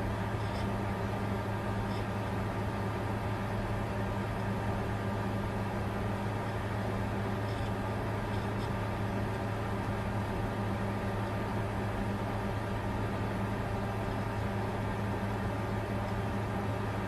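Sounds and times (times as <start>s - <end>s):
constant low hum: 0.0s - 17.0s
cooling fans whirring: 0.0s - 17.0s.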